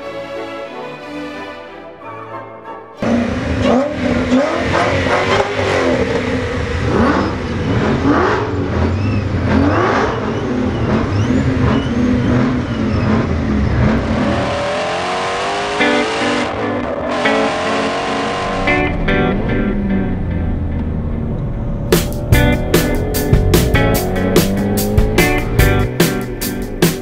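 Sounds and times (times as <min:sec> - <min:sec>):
car engine revving: 0:03.0 - 0:27.0.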